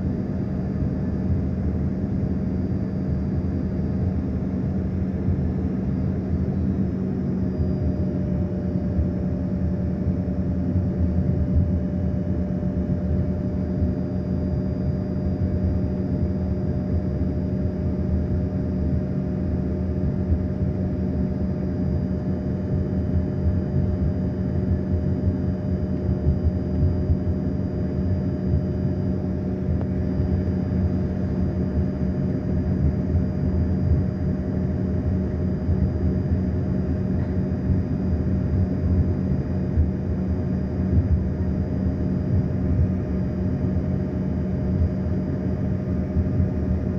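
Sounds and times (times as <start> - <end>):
airliner cabin engine drone: 0.0 - 46.9
steady hum tones: 0.0 - 46.9.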